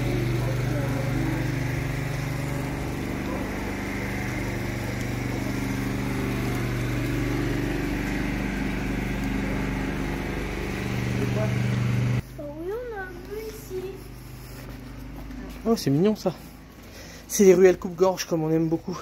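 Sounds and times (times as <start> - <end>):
motor humming: 0.0 - 15.2.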